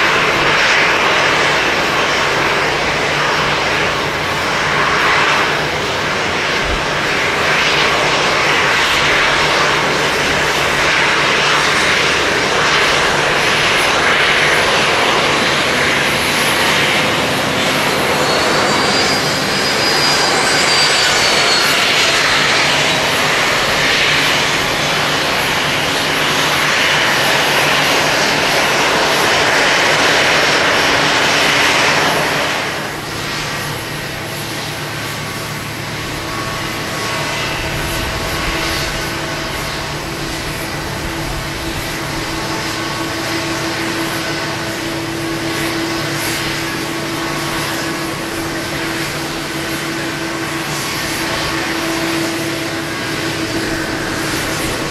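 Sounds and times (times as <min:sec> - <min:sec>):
jet engines idling: 0:00.0 - 0:54.9.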